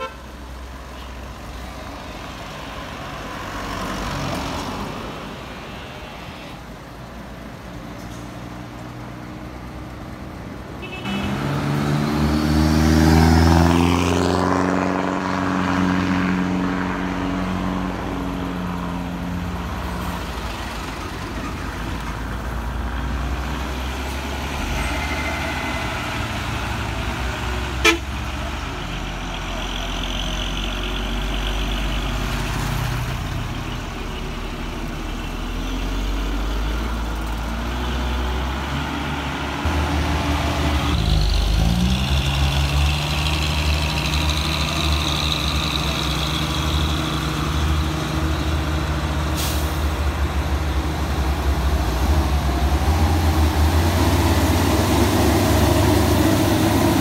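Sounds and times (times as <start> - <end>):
diesel truck engine: 0.0 - 57.0
road noise of passing vehicles: 0.0 - 57.0.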